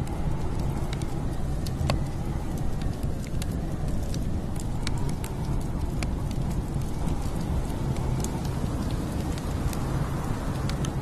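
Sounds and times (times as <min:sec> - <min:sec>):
low wind rumble: 0:00.0 - 0:11.0
wood fire crackling: 0:00.0 - 0:11.0.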